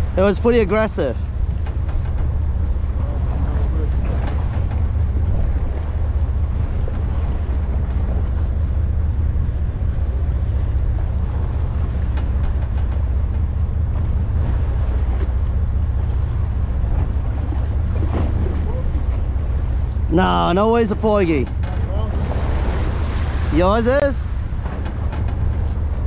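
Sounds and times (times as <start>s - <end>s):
water washing along boat: 0.0s - 26.0s
wind buffeting microphone: 0.0s - 26.0s.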